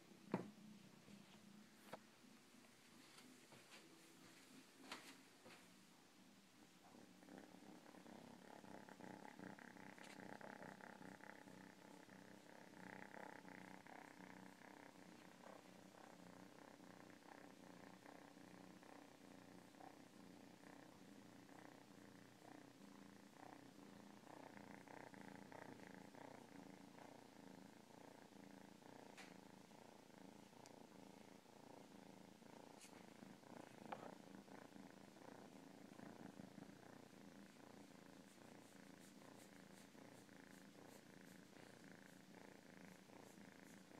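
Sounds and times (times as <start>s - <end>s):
cat purring: 0.0s - 43.9s.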